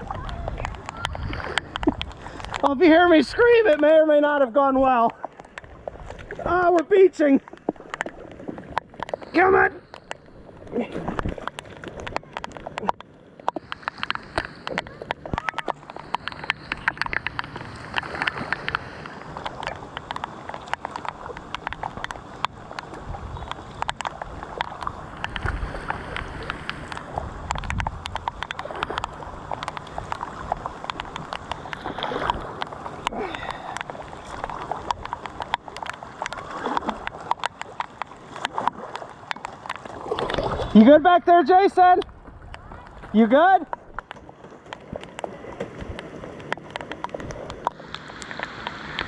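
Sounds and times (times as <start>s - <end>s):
paddle strokes splashing water: 0.0s - 49.0s
raindrops ticking on camera: 0.0s - 49.0s.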